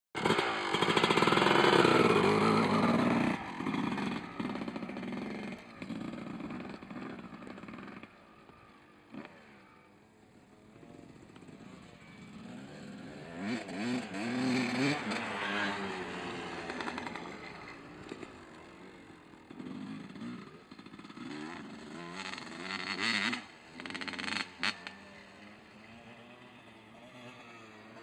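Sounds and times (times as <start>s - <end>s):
motocross bike revving: 0.2s - 10.0s, 10.7s - 28.0s.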